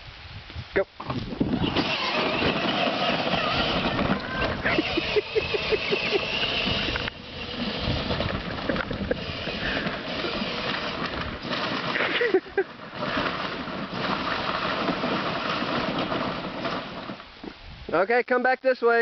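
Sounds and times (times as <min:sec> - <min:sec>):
electric ride-on toy rumbling: 0:01.0 - 0:17.5
plastic wheels rolling on rough ground: 0:01.0 - 0:17.6.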